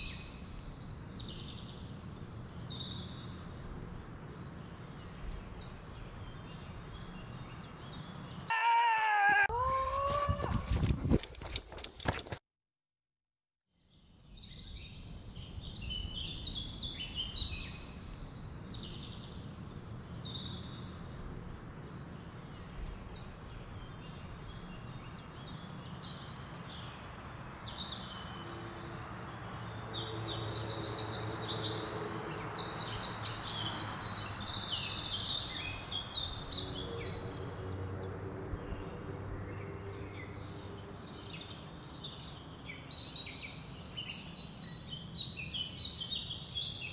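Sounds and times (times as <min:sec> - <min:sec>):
songbirds chirping: 0:00.0 - 0:12.2, 0:13.9 - 0:46.9.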